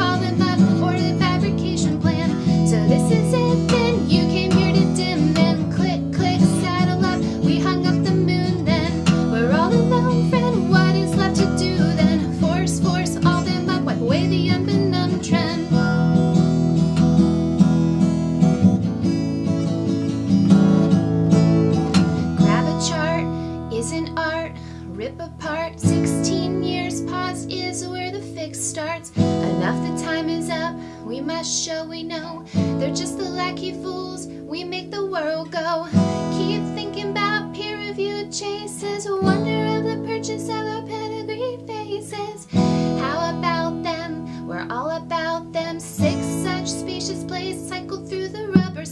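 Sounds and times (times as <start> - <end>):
woman singing: 0.0 - 16.4, 22.2 - 48.9
acoustic guitar strumming chords: 0.0 - 48.9.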